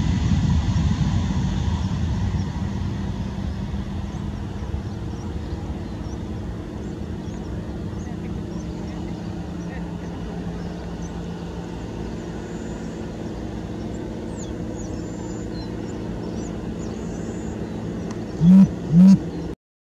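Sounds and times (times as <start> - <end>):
jet engines roaring at takeoff: 0.0 - 19.6.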